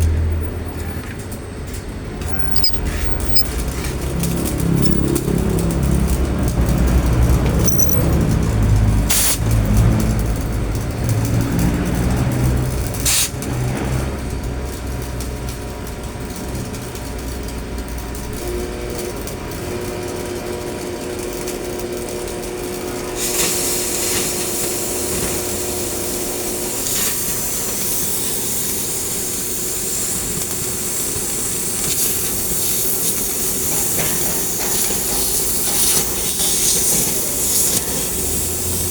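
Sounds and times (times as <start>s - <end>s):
low engine rumble: 0.0s - 38.9s
torch hissing cutting steel: 2.2s - 38.9s.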